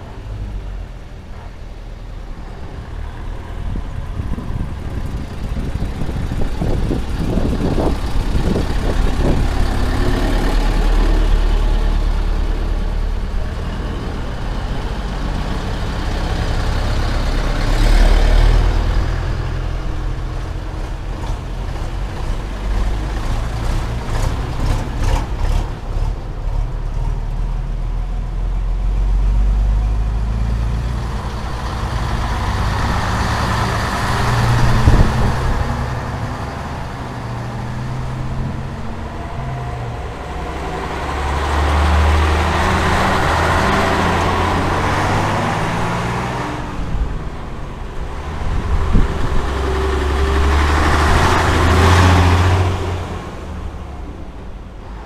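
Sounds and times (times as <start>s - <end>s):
truck diesel engines rumbling: 0.0s - 55.0s.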